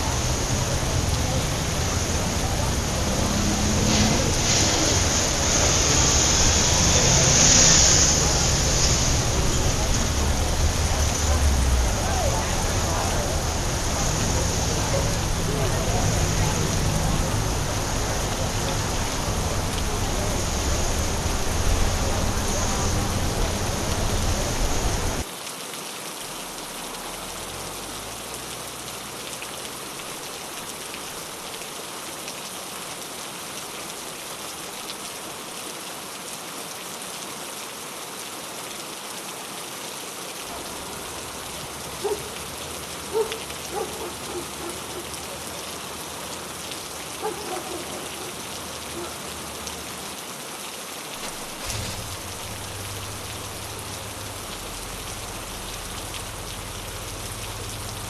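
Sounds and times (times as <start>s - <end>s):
rain on wet street: 0.0s - 58.0s.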